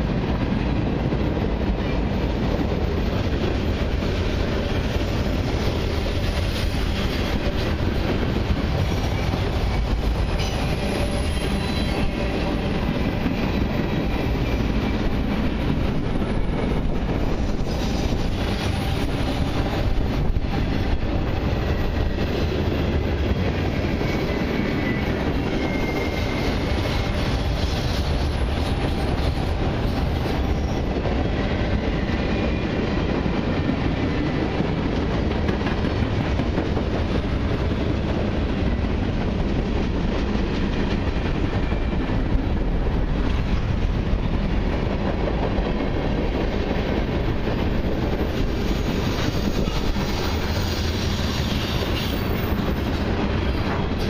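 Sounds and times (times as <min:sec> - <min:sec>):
steel wheels rumbling on rails: 0:00.0 - 0:54.0.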